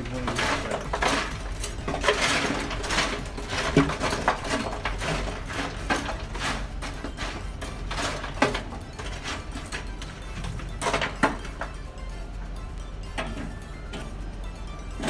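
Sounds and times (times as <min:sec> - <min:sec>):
coals scraping and clinking on metal: 0:00.0 - 0:15.0.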